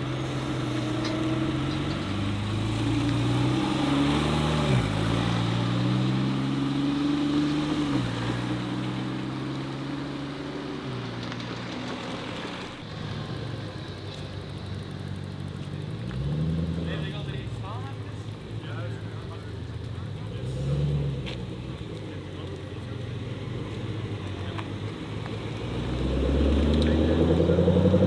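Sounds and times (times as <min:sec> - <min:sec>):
car engine at low revs: 0:00.0 - 0:28.0.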